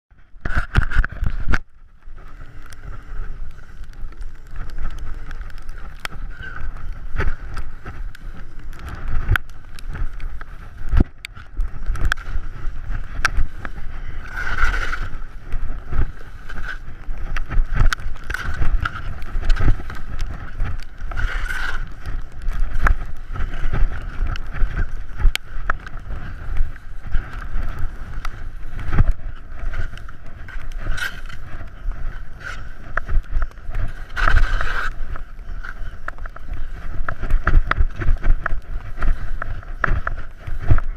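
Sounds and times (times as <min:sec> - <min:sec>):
wind buffeting microphone: 0:00.1 - 0:40.9
skis scraping over snow: 0:00.4 - 0:40.9.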